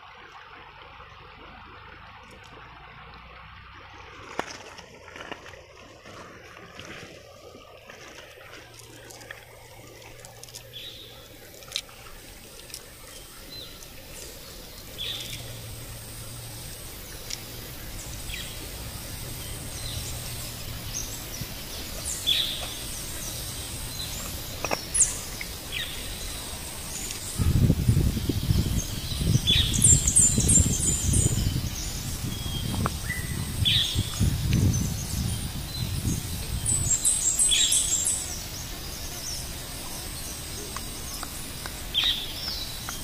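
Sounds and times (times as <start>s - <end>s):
stream water running: 0.0s - 43.0s.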